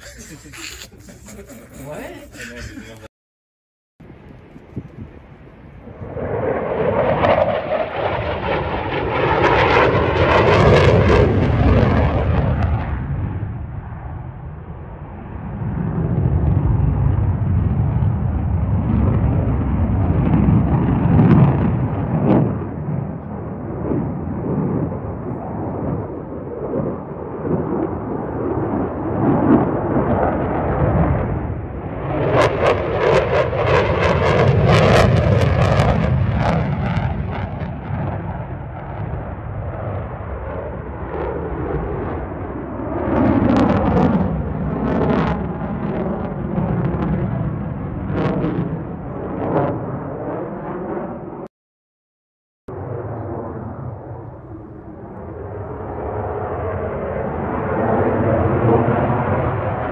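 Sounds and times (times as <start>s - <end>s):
jet aircraft rumble: 0.0s - 3.1s, 4.0s - 51.5s, 52.7s - 59.9s.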